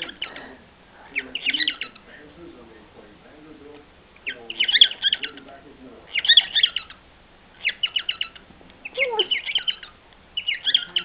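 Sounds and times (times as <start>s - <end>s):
cockatiel chirping: 0.0s - 2.1s, 4.2s - 11.0s.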